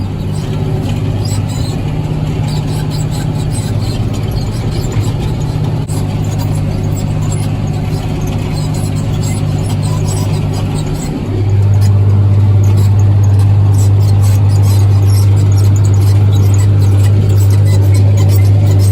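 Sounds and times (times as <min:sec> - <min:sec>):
tractor diesel engine: 0:00.0 - 0:18.9.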